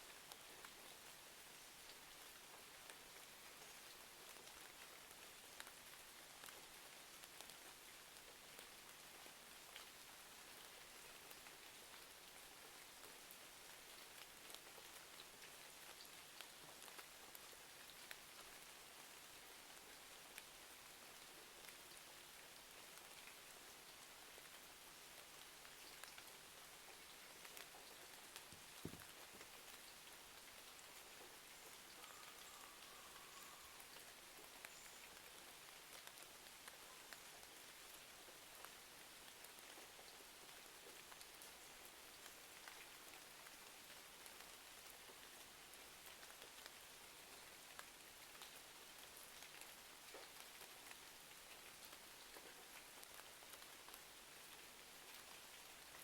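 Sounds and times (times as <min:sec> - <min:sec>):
faint steady rain: 0:00.0 - 0:56.0.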